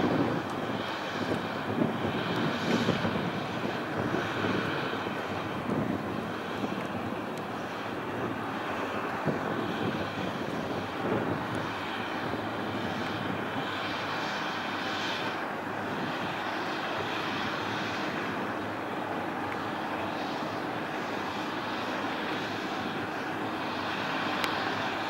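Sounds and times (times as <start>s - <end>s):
jet engine rumble and hiss: 0.0s - 25.0s
jet engine whine: 0.0s - 25.0s.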